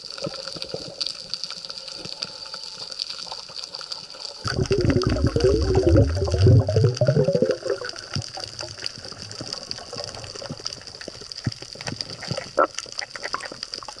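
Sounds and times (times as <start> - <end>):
water gurgle: 2.8 - 14.0.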